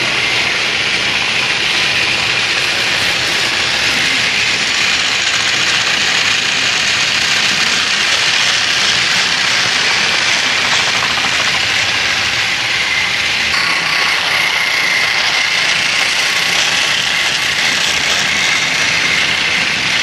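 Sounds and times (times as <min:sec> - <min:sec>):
toy train motors whirring: 0:00.0 - 0:20.0.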